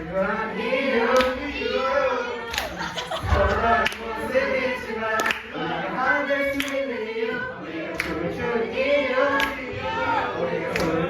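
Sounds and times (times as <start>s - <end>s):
group singing worship song: 0.0s - 11.0s.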